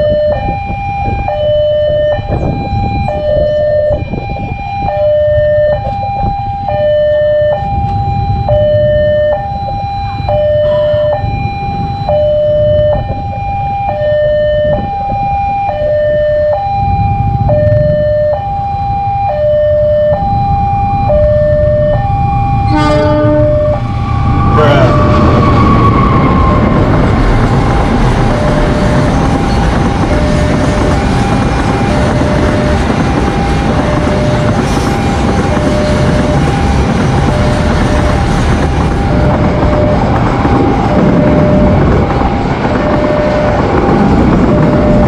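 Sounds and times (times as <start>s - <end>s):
level-crossing two-tone alarm: 0.0s - 45.0s
low rumble: 0.0s - 45.0s.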